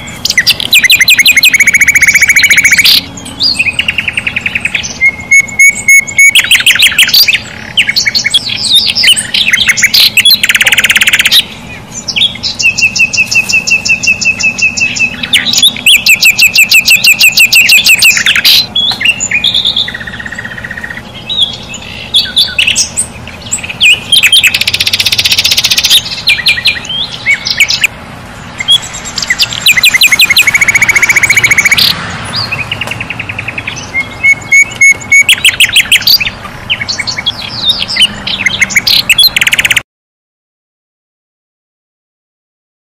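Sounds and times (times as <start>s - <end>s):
birds chirping and singing: 0.0s - 39.8s.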